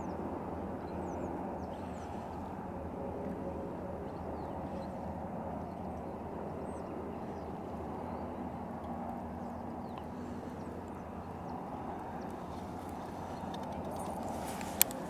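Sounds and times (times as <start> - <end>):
wind and water noise: 0.0 - 15.0.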